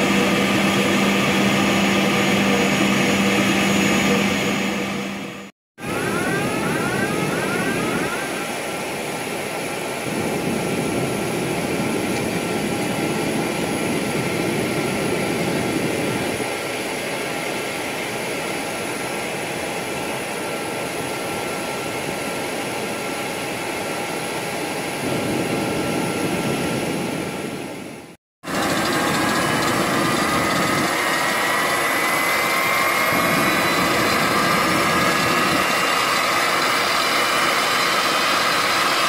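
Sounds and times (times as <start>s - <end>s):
high-pitched engine whine: 0.0s - 39.0s
jet engines rushing: 0.0s - 39.0s.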